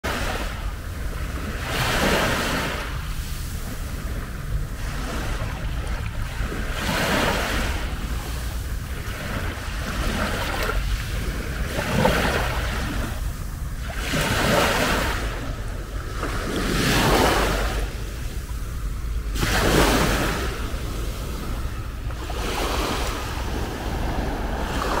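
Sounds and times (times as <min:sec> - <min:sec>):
wind rumble on microphone: 0:00.0 - 0:25.0
waves washing over pebbles: 0:00.1 - 0:25.0.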